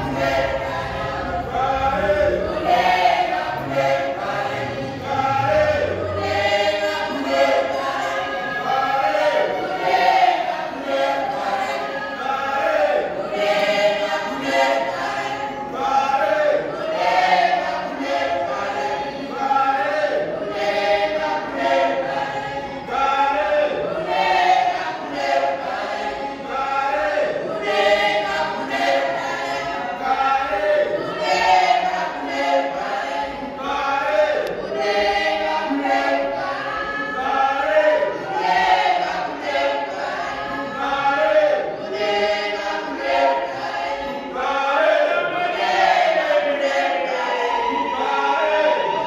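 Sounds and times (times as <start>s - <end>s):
choir singing a cappella: 0.0s - 49.0s.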